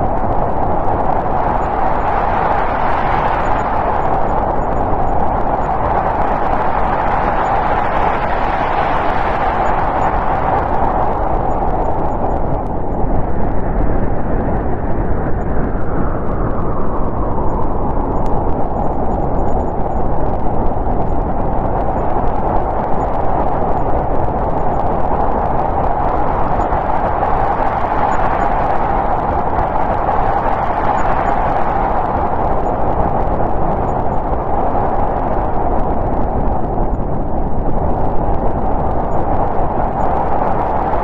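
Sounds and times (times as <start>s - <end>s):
storm wind blowing: 0.0s - 41.0s.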